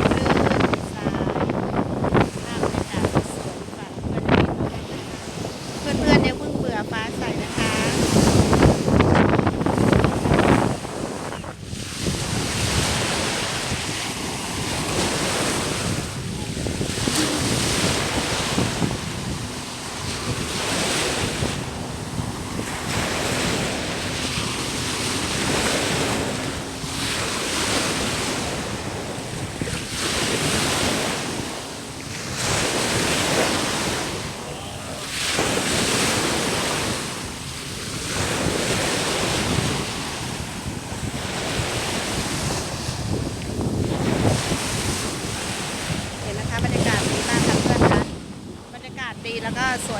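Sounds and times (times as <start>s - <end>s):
waves breaking on beach: 0.0s - 49.9s
wind on microphone: 0.0s - 49.9s.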